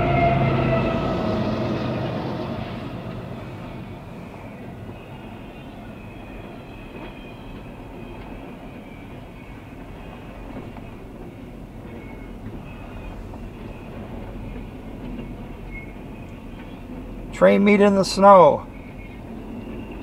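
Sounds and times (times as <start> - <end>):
high wheel squeals: 0.0 - 2.8, 3.7 - 20.0
train wheels rumbling on rail: 0.0 - 20.0.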